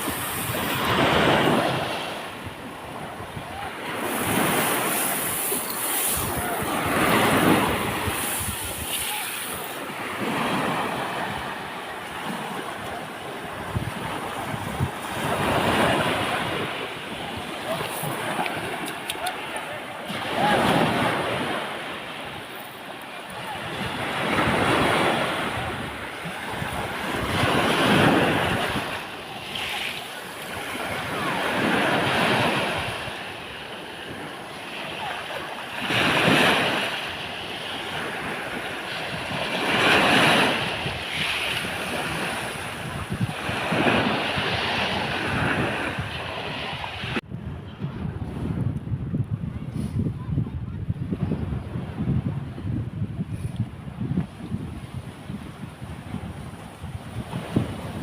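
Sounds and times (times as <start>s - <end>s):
sea waves breaking on beach: 0.0s - 47.4s, 53.6s - 58.0s
wind on microphone: 0.0s - 58.0s.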